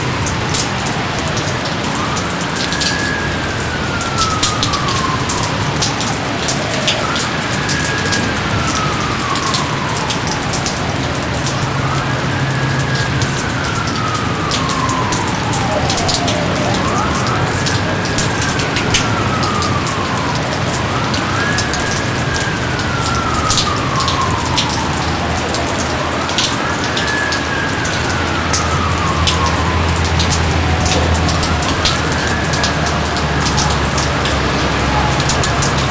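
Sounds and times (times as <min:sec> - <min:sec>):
heavy rain: 0:00.0 - 0:35.9
raindrops ticking: 0:00.0 - 0:35.9.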